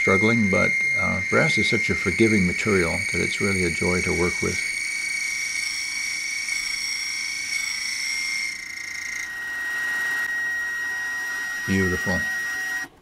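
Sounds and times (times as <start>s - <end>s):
end mill cutting brass: 0.0s - 12.9s.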